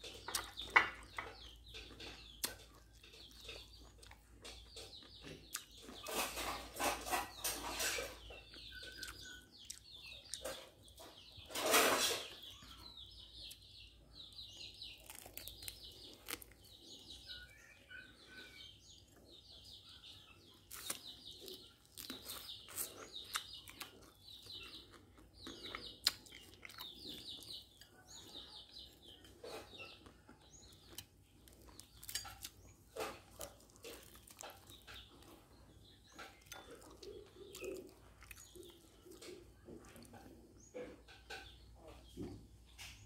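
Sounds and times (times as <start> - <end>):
bird chirping trills: 0.0 - 43.0.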